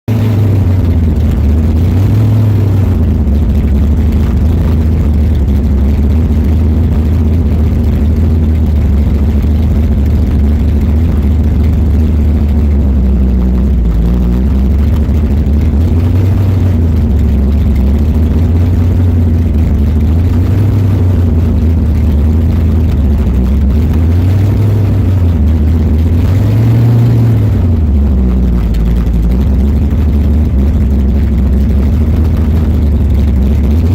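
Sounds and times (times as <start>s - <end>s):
car engine idling with throttle blips: 0.0s - 33.9s.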